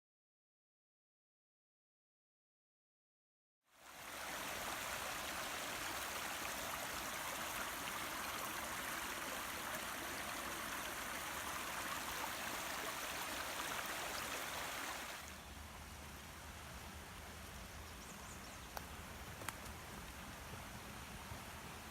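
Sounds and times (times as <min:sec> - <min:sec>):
stream running over rocks: 0:03.7 - 0:21.9.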